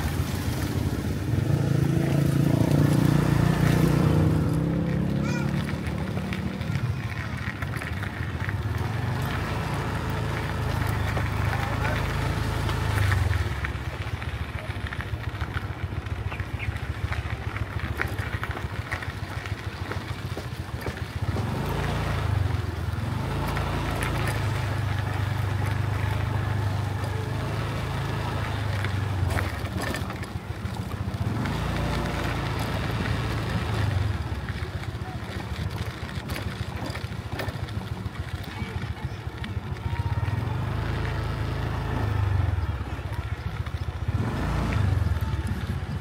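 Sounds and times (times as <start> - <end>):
motorbike engines humming: 0.0 - 46.0
street noise: 0.0 - 46.0.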